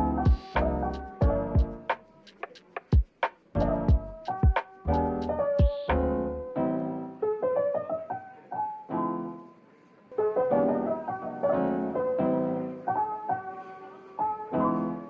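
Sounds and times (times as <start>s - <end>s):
slow piano music: 0.0s - 2.4s, 3.0s - 15.0s.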